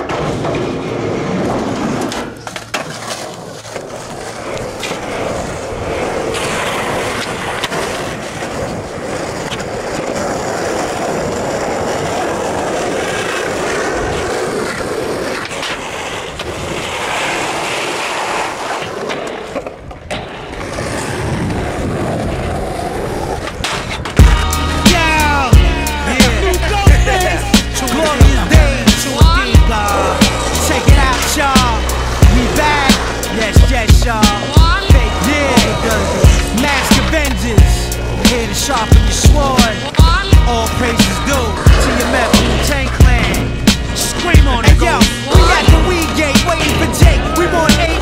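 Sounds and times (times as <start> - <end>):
skateboard wheels rolling on concrete: 0.0 - 48.0.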